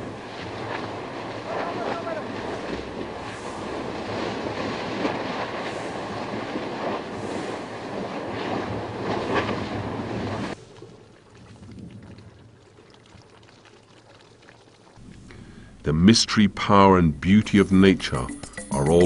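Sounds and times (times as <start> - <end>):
lava churning and spattering: 0.0 - 15.9.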